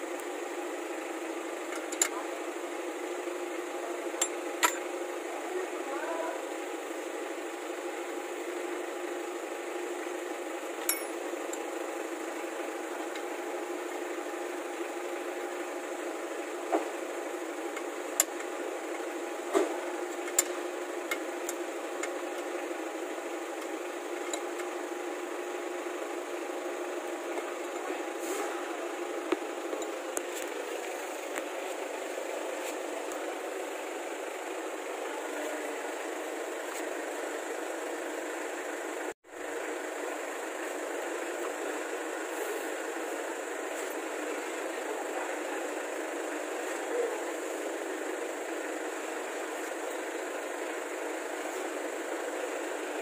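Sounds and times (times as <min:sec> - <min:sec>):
mechanical engine hum: 0:00.0 - 0:53.0.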